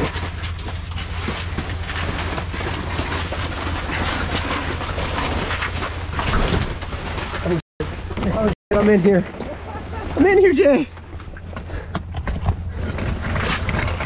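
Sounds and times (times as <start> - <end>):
fabric walls rustling: 0.0 - 11.9.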